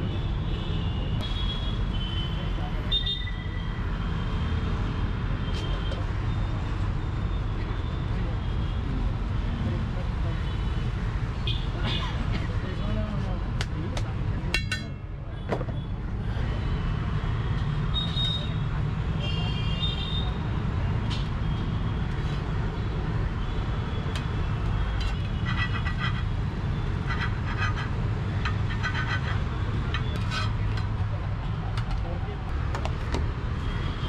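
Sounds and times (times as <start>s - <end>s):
low rumble of traffic: 0.0s - 34.0s.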